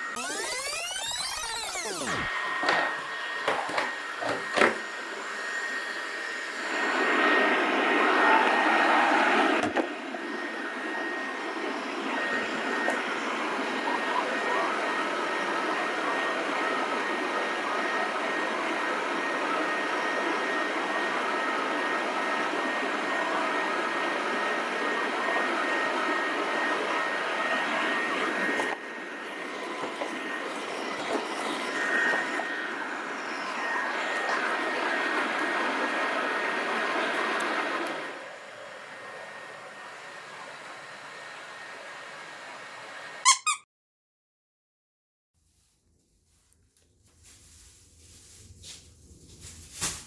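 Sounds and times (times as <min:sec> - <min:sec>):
robot vacuum whirring: 0:00.0 - 0:43.6.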